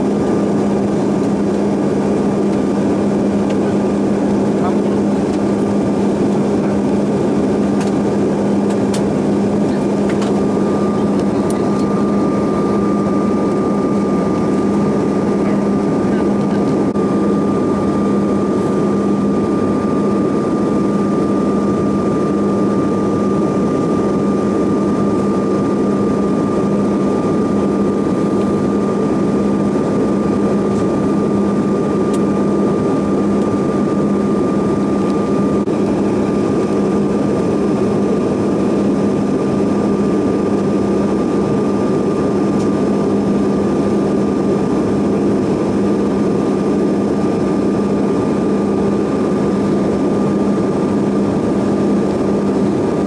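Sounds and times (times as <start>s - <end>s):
airliner cabin drone: 0.0s - 53.0s
high engine whine: 0.0s - 53.0s.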